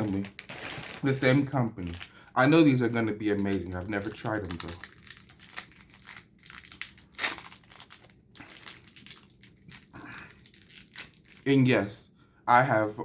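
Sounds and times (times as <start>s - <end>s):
plastic wrapper crinkling: 0.0s - 2.2s, 3.2s - 11.5s.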